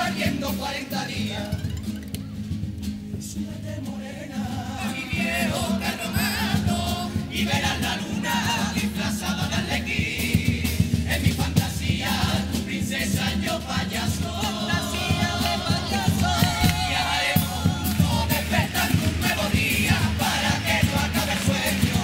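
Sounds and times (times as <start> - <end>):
choir singing in harmony: 0.0 - 1.6, 3.6 - 22.0
strummed guitars: 0.0 - 22.0
steady drum beat: 2.2 - 22.0.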